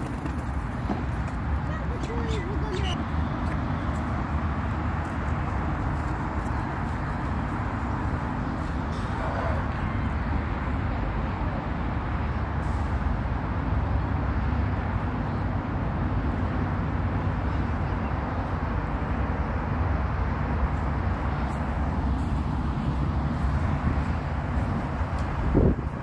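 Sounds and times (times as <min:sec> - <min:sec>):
low rumble of road traffic: 0:00.0 - 0:26.0.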